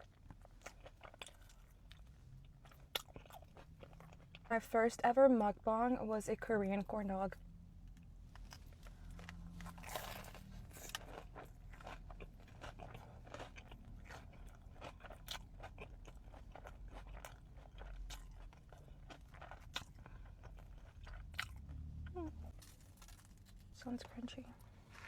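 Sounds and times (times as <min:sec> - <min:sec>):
crunchy bites and chewing: 0:00.0 - 0:04.5, 0:08.0 - 0:23.7.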